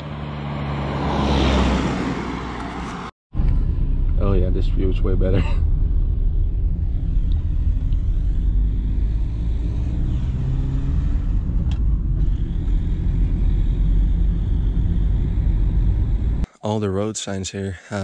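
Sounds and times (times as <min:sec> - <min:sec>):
car road and engine rumble: 0:00.0 - 0:16.5.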